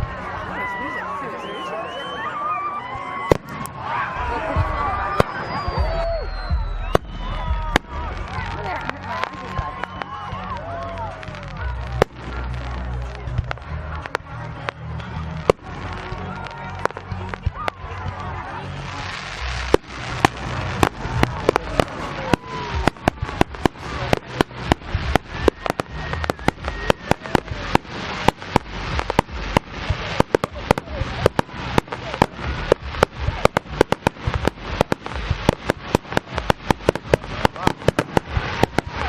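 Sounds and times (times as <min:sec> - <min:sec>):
fireworks bangs and pops: 0:00.0 - 0:01.3, 0:03.2 - 0:39.0.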